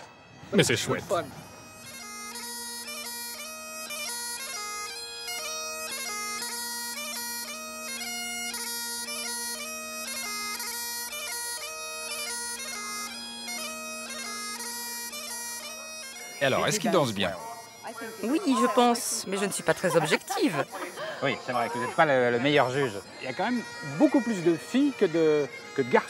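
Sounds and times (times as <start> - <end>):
bagpipe chanter melody: 0.0 - 26.0
bagpipe drone: 0.0 - 26.0.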